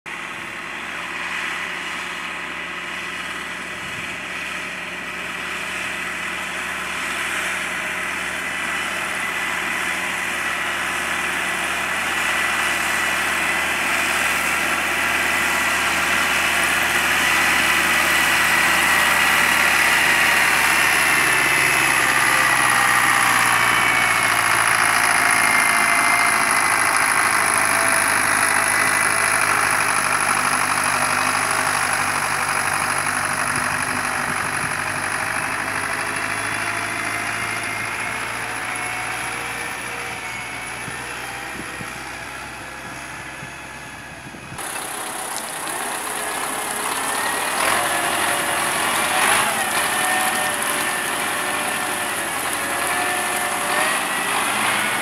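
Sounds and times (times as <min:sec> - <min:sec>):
tractor diesel engine under load: 0:00.1 - 0:55.0.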